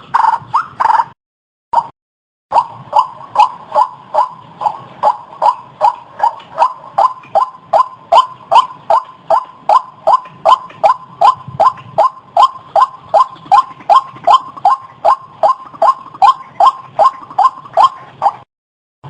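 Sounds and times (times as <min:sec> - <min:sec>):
waterhen calling: 0:02.5 - 0:18.4.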